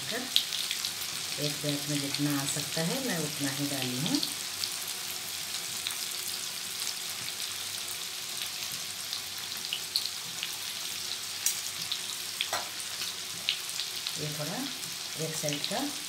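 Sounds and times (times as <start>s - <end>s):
deep-frying in hot oil: 0.0s - 16.0s.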